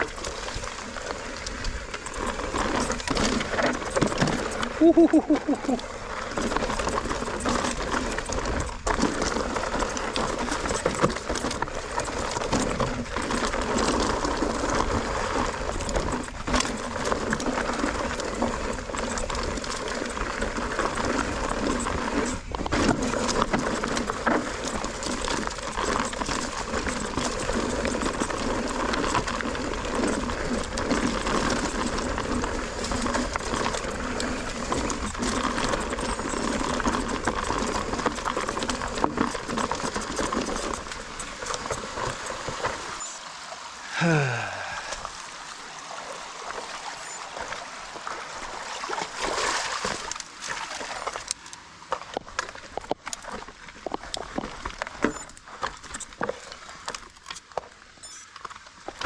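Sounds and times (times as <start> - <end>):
bike rattling: 0.0 - 43.4, 44.0 - 59.0
tyres rolling on dirt and stones: 0.0 - 59.0.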